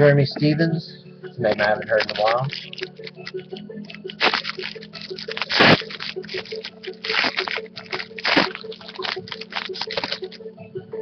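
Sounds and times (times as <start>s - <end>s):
foil wrapper tearing and crinkling: 1.5s - 10.4s.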